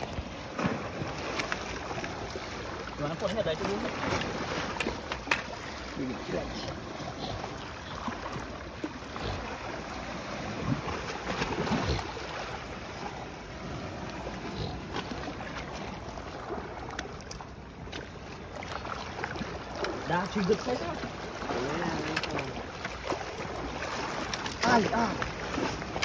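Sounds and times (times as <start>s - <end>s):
seawater rushing: 0.0s - 26.0s.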